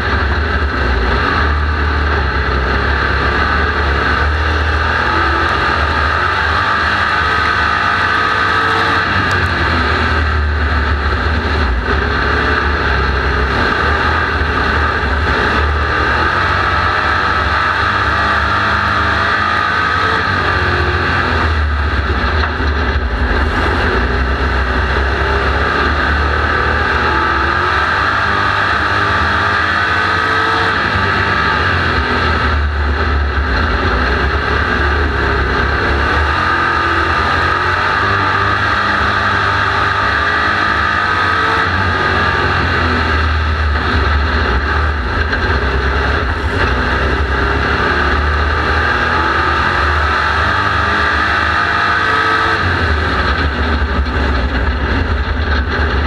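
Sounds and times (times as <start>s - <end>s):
race car engine droning: 0.0s - 56.0s
road and wind noise: 0.0s - 56.0s.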